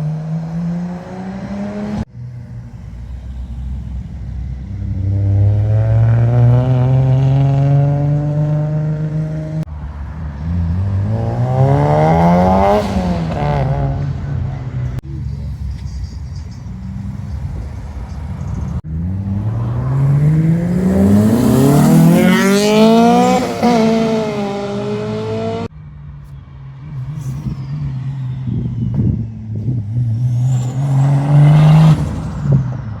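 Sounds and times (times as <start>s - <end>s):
car engines revving loudly: 0.0s - 33.0s.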